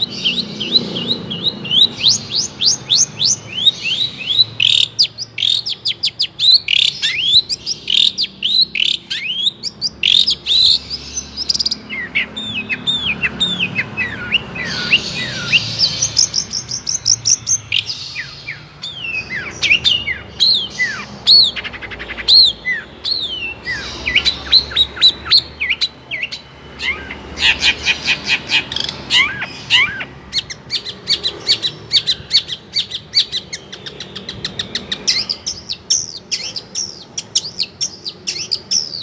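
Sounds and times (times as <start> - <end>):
harsh buzzy bird chatter: 0.0 - 39.0
shrike singing: 0.0 - 39.0.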